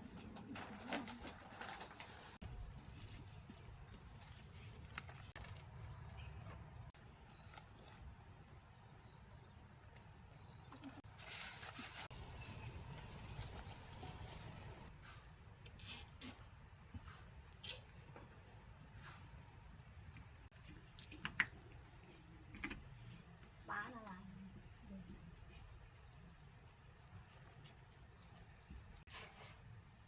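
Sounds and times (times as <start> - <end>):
insects trilling: 0.0 - 29.1.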